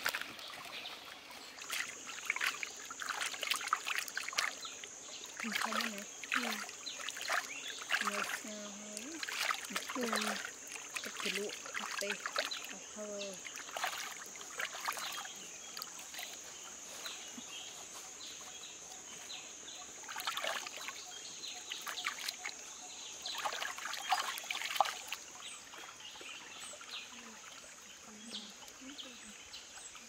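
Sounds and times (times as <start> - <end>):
hands splashing in stream: 0.0 - 17.5, 19.9 - 27.9.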